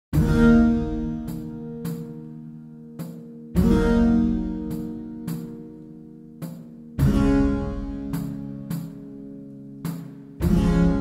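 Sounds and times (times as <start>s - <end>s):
plucked notes: 0.2s - 11.0s.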